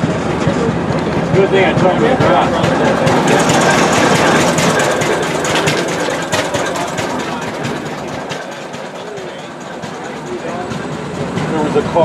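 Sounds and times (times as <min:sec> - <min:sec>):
engine running: 0:00.0 - 0:12.0
wagon clattering and rattling: 0:00.4 - 0:12.0.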